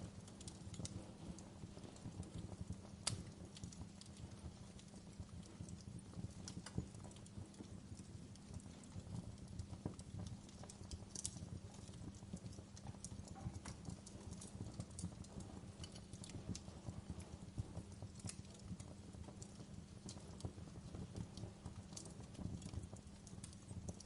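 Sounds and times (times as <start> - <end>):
fire low rumble: 0.0 - 24.0
logs crackling and popping: 0.0 - 24.0.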